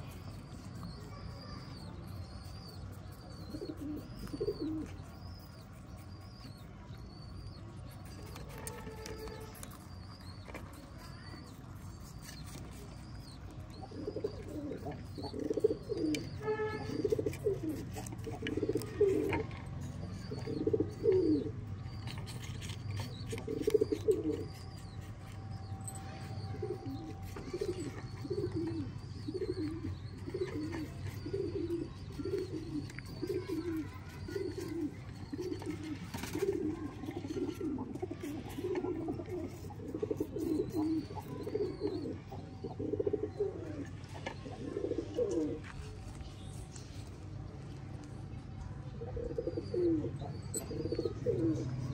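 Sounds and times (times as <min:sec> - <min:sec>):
pigeons cooing: 0:00.0 - 0:46.1, 0:49.0 - 0:51.9
faint high chirping: 0:00.0 - 0:51.9.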